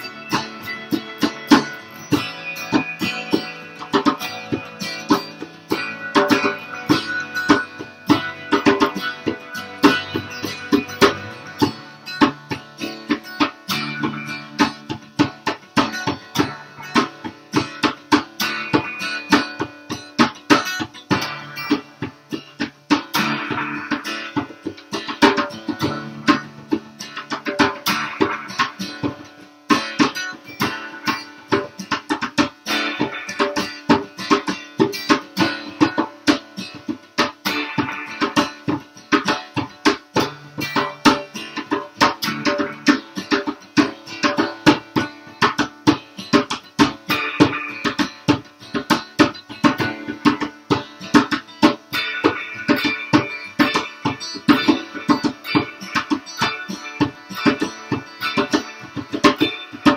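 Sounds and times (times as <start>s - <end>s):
djembe hand drum beat: 0.0s - 59.9s
guitars playing: 0.0s - 59.9s.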